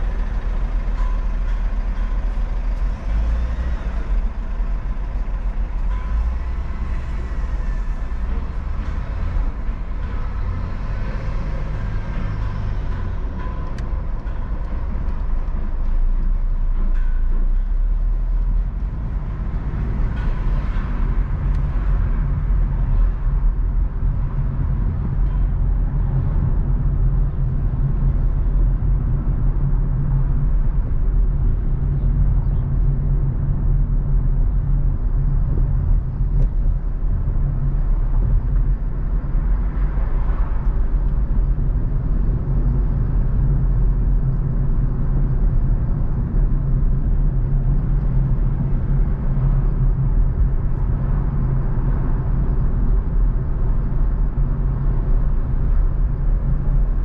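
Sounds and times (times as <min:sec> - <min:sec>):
car engine and road noise: 0:00.0 - 0:57.0
passing vehicles: 0:00.0 - 0:57.0.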